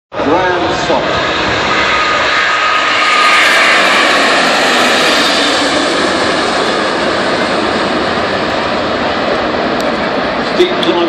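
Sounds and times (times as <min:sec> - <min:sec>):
jet engines roaring: 0:00.1 - 0:11.0
faint engine whine: 0:00.2 - 0:11.0.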